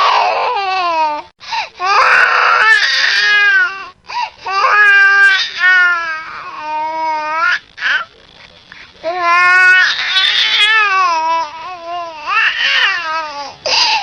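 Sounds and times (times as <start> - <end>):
infant crying hard: 0.0 - 1.1, 1.8 - 8.0, 9.0 - 14.0.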